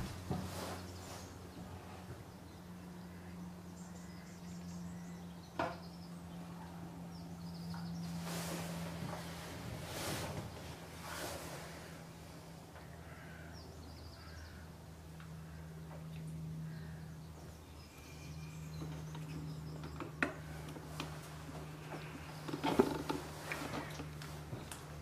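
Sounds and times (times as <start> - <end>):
distant bird calls: 0.0 - 25.0
steady low hum: 0.0 - 25.0.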